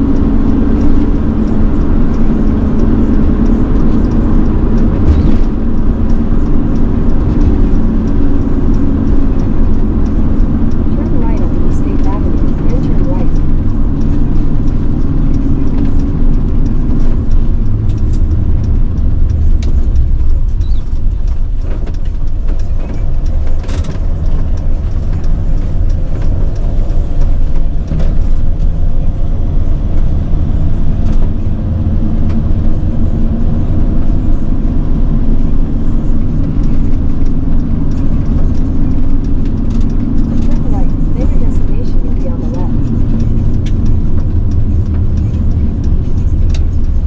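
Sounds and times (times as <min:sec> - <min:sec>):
van road and engine rumble: 0:00.0 - 0:47.0.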